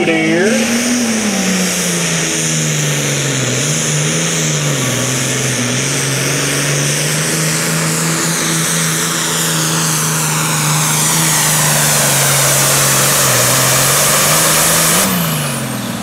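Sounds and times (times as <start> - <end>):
tractor diesel engine running hard: 0.0 - 16.0.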